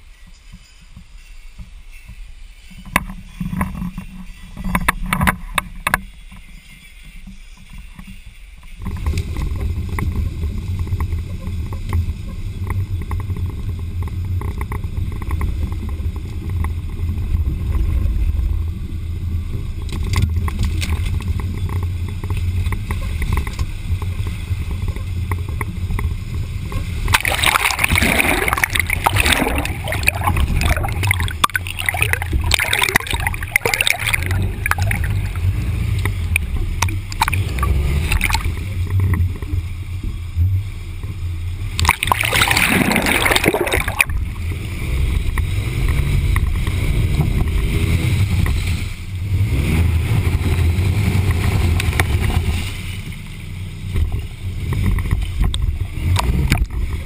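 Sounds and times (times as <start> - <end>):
stream water gurgling and splashing: 2.8 - 57.0
muffled low rumble: 7.6 - 57.0.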